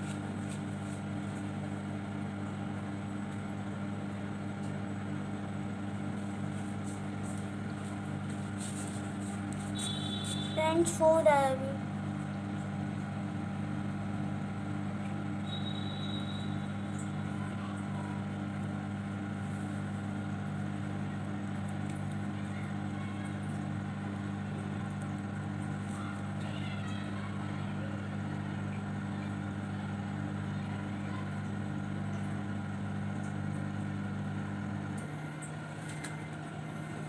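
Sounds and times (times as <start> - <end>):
microwave oven humming: 0.0 - 37.0.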